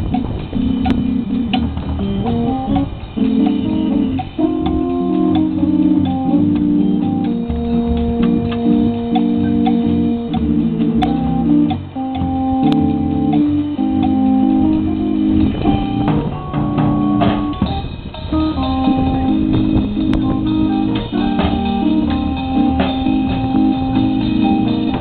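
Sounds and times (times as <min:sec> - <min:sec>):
drum kit keeping time: 0:00.0 - 0:25.0
electric organ chords: 0:00.0 - 0:25.0.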